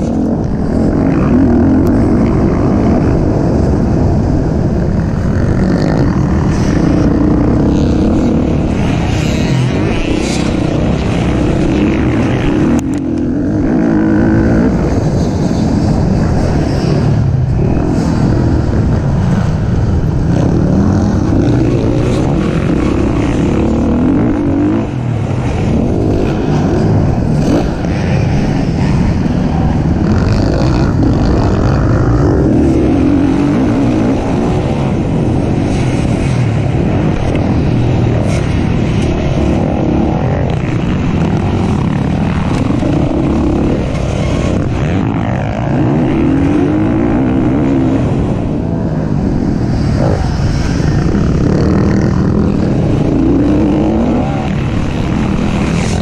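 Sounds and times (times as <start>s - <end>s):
low rumble: 0.0s - 56.0s
racing engine revving: 0.0s - 56.0s.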